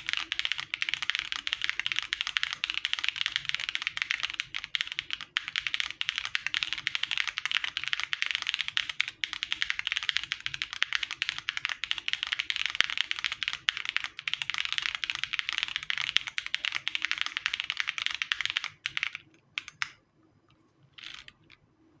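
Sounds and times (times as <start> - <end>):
fast typing on mechanical keyboard: 0.0 - 19.8.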